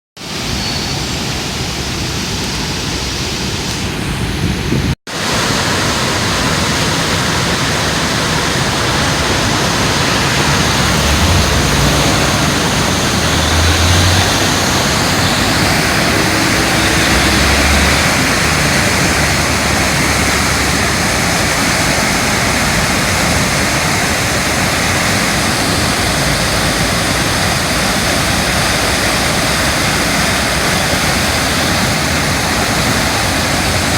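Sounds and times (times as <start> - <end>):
floodwater rushing: 0.2 - 33.9.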